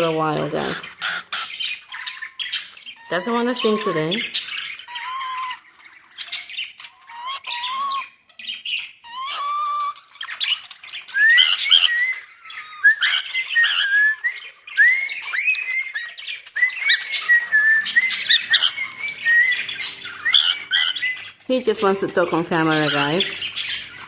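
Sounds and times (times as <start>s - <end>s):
cockatiel chirping and squawking: 0.0s - 24.0s.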